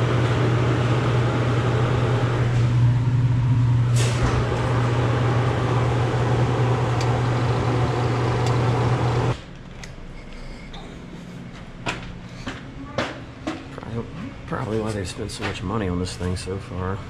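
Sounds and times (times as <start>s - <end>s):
compressor low hum: 0.0s - 17.0s.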